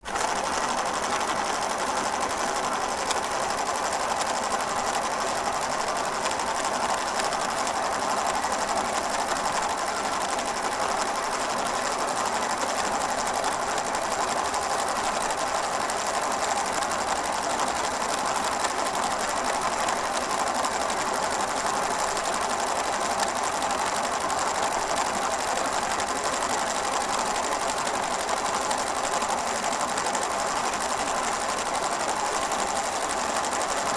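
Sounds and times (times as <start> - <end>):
film projector clattering: 0.0 - 33.9.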